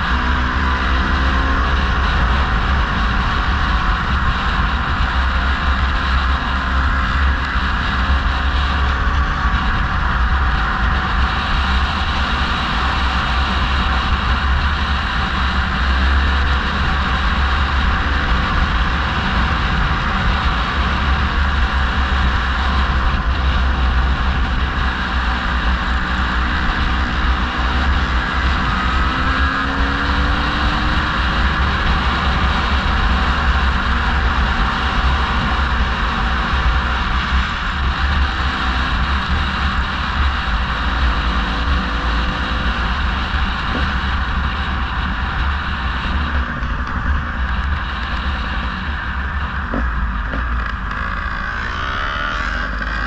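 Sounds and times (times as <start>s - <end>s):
car driving road noise: 0.0s - 53.0s
low rumble: 0.0s - 53.0s.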